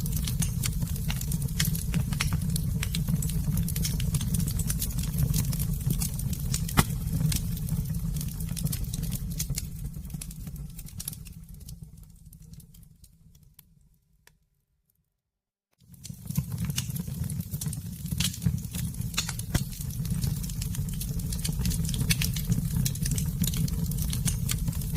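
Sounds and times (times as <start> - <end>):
campfire crackling and popping: 0.0 - 12.9, 15.9 - 24.9.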